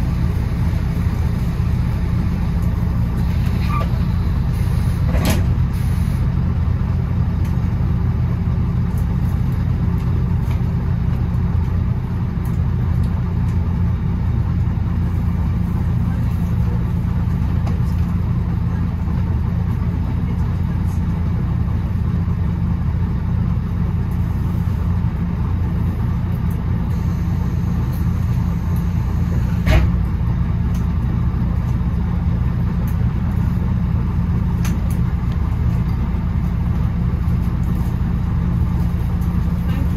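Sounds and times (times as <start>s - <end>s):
bus engine humming: 0.0s - 39.9s
road noise: 0.0s - 39.9s.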